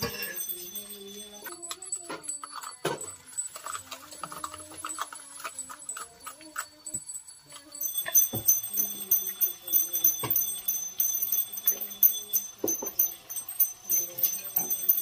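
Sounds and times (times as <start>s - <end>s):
paste frying in hot oil: 0.0s - 15.0s.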